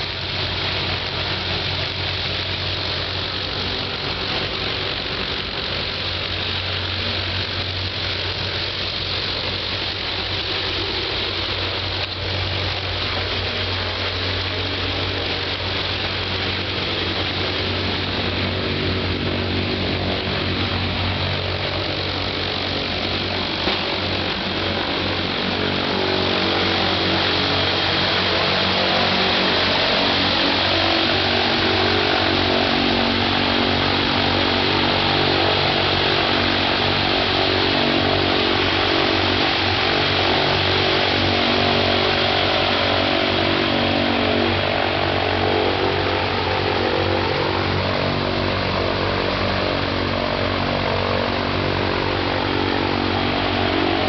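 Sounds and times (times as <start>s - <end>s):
radial aircraft engine running: 0.0s - 54.0s.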